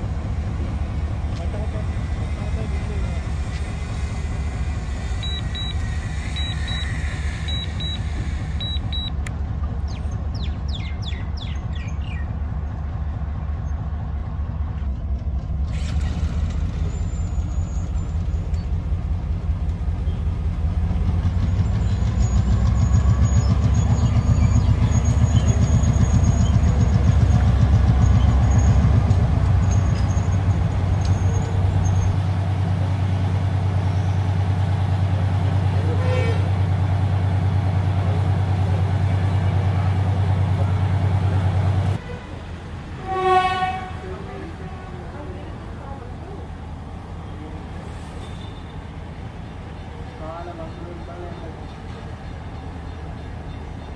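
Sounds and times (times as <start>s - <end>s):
diesel locomotive engine rumbling: 0.0s - 53.9s.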